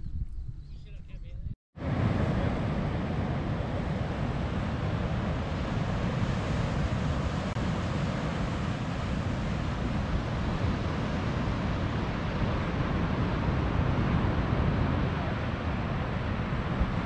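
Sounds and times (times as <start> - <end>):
wind rumbling on microphone: 0.0 - 17.0
ocean surf breaking: 1.8 - 17.0.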